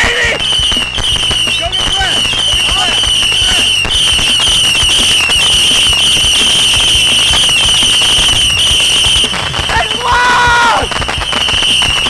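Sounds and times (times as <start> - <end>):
firework pops and crackles: 0.0 - 12.0
fireworks whistling: 0.0 - 12.0.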